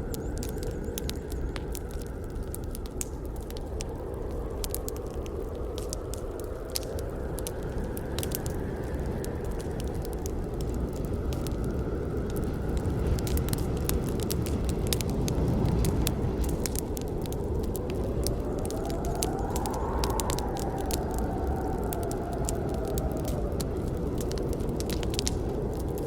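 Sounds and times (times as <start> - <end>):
burning wood crackling: 0.0 - 26.0
low rumble of flames: 0.0 - 26.0.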